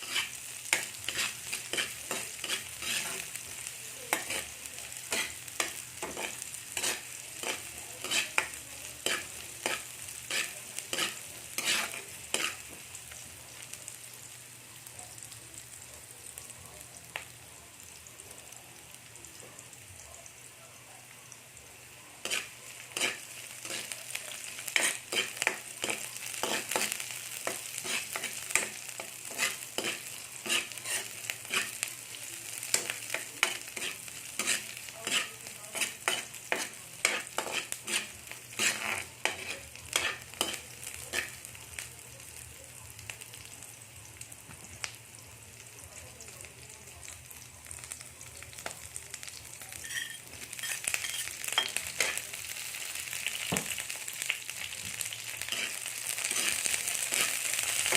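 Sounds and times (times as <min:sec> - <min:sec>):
food sizzling in oil: 0:00.0 - 0:57.9.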